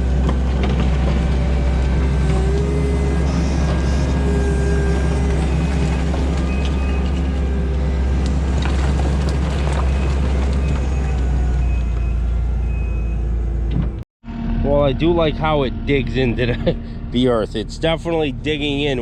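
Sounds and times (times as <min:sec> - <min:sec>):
diesel engine under load: 0:00.0 - 0:19.0
hydraulic whine: 0:00.0 - 0:19.0.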